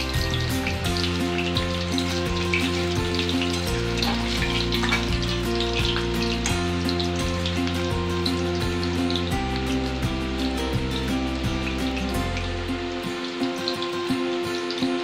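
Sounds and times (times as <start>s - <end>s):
background music: 0.0s - 15.0s
food sizzling in oil: 0.0s - 15.0s.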